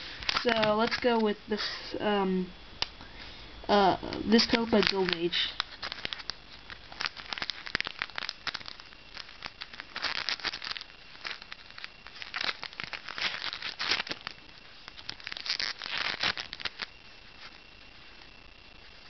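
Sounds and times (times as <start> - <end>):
foil wrapper crinkling: 0.0 - 1.7, 3.7 - 19.0.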